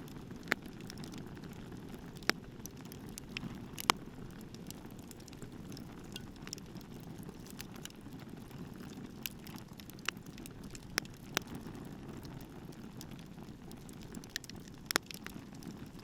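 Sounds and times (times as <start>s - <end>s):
wood crackling and popping: 0.0s - 16.0s
wood fire rumbling: 0.0s - 16.0s.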